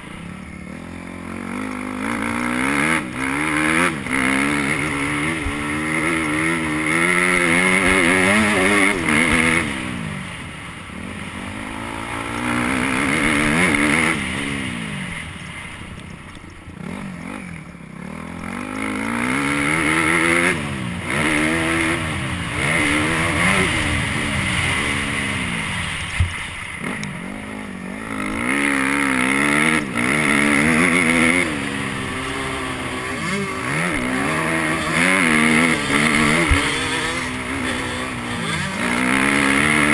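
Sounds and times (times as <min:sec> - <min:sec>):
dirt bike engine revving: 0:00.0 - 0:15.9, 0:16.6 - 0:39.9.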